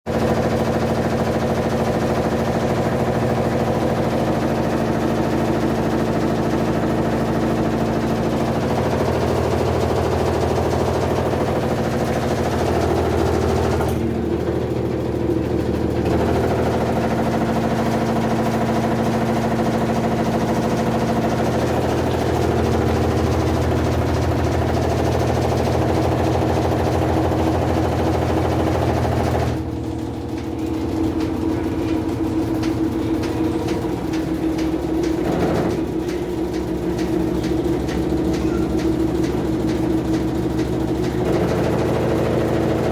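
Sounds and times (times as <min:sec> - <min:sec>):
washing machine spinning hum: 0:00.1 - 0:42.9.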